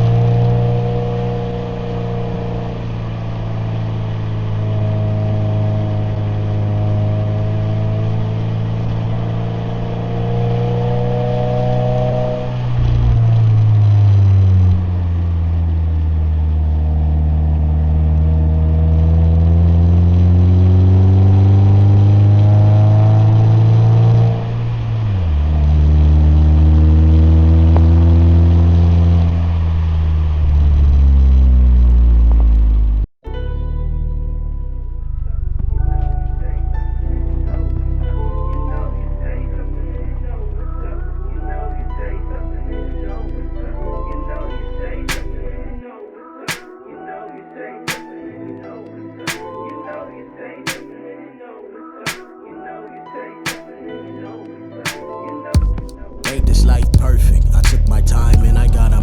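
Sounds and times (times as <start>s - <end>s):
car engine accelerating: 0.0s - 45.8s, 56.3s - 59.0s.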